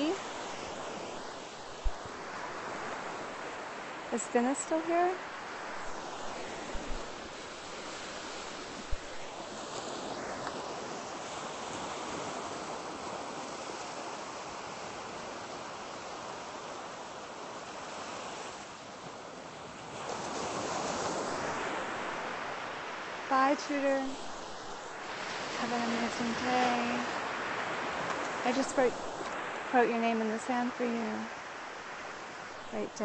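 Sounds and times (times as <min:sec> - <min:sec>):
surf breaking on a beach: 0:00.0 - 0:33.0.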